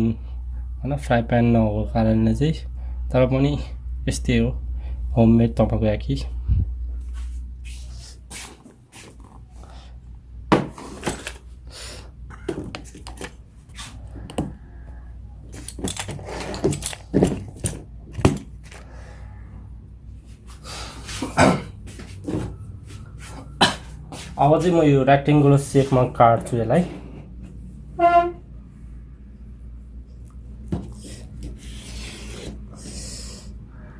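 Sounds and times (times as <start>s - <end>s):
low steady hum: 0.0s - 8.3s, 9.1s - 33.9s.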